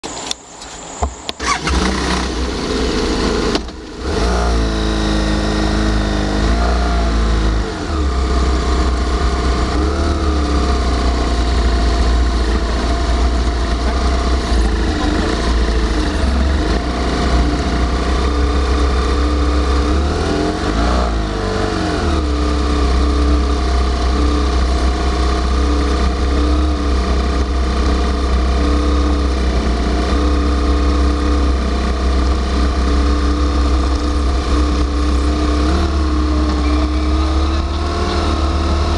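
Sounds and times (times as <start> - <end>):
motorcycle engine revving: 1.1 - 38.9.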